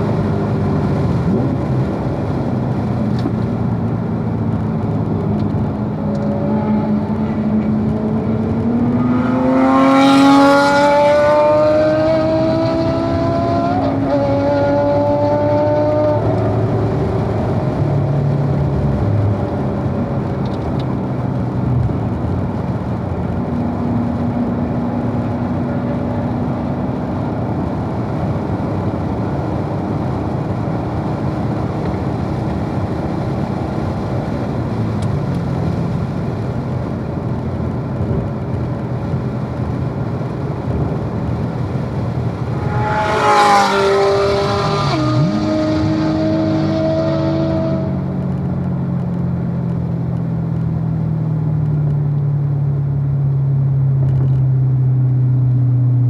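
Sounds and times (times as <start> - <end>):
car engine revving hard: 0.0 - 48.4
wind noise: 0.0 - 52.1.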